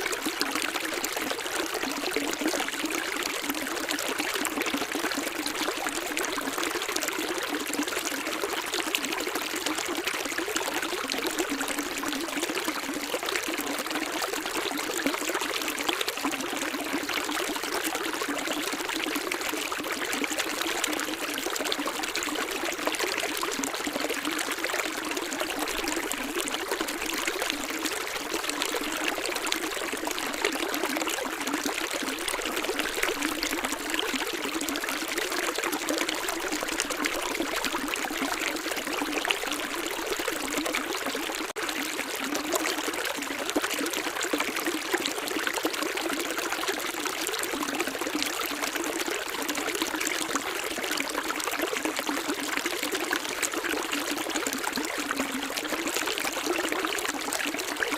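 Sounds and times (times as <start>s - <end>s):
stream splashing and trickling: 0.0s - 57.9s.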